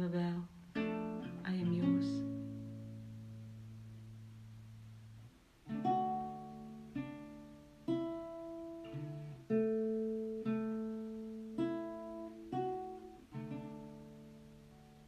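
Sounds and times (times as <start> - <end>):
acoustic guitar chords strummed: 0.0 - 15.0.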